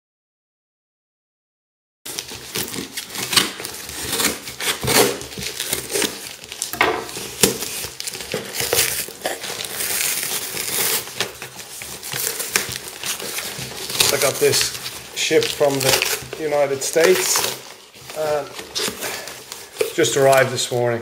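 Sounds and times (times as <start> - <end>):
packaging crinkling: 2.1 - 21.0.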